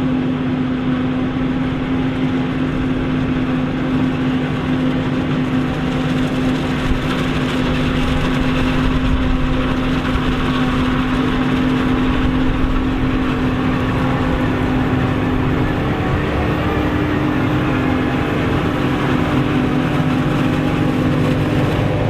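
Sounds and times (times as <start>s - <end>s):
heavy farm machinery engine drone: 0.0s - 22.0s.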